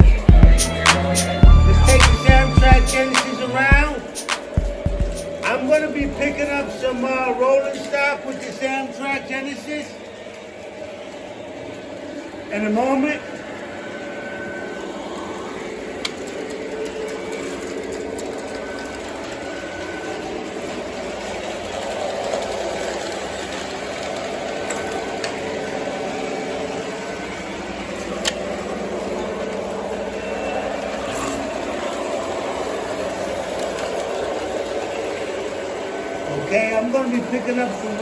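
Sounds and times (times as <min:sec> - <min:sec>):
model train motor hum: 0:05.2 - 0:38.0.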